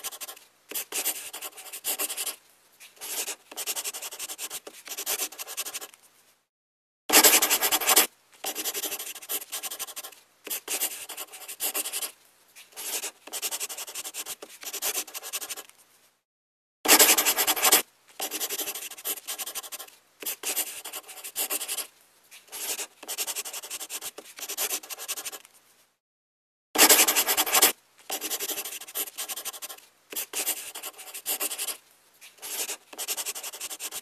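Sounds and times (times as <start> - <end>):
pen scribbling on paper: 0.0 - 2.4, 3.0 - 5.9, 7.1 - 12.1, 12.8 - 15.6, 16.9 - 21.9, 22.5 - 25.4, 26.8 - 31.8, 32.4 - 34.0.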